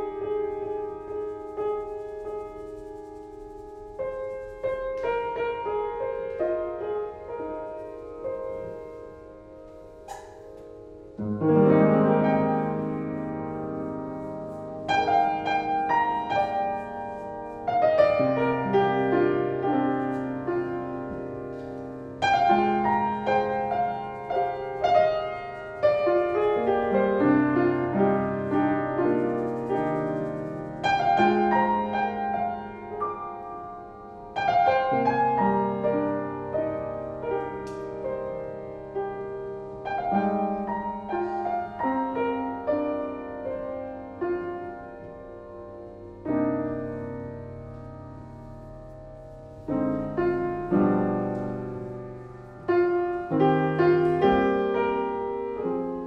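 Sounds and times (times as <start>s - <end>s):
slow solo piano chords: 0.0s - 56.0s.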